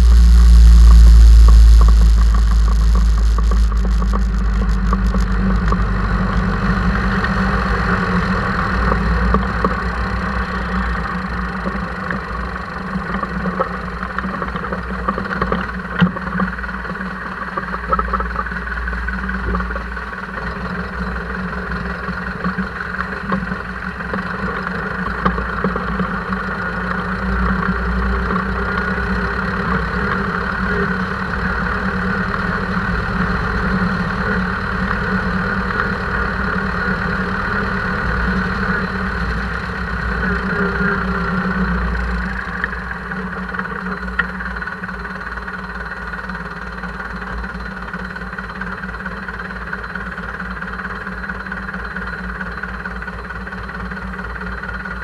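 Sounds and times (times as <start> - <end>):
tractor diesel engine running: 0.0 - 14.1, 20.6 - 55.0.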